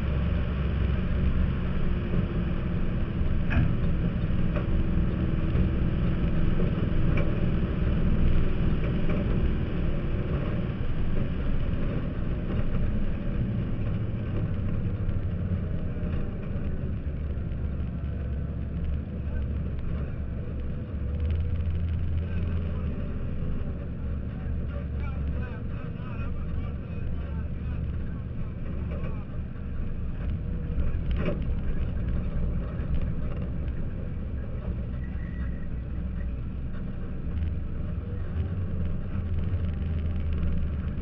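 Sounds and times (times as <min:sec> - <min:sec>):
race car engine drone: 0:00.0 - 0:41.0
road and wind noise: 0:00.0 - 0:41.0.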